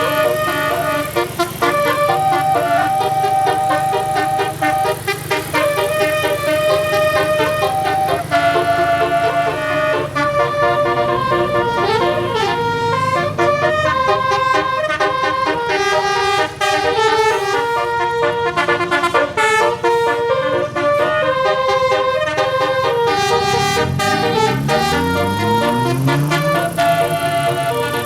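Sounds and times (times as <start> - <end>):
multi-tone bus horn playing a tune: 0.0 - 28.0.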